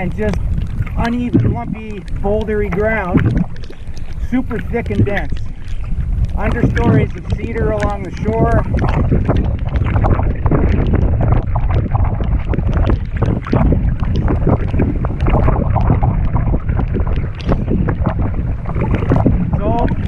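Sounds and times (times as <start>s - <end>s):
paddle splashes: 0.0s - 20.0s
rain ticks: 0.0s - 20.0s
water lapping around canoe: 0.0s - 20.0s
wind rumbling on microphone: 0.0s - 20.0s.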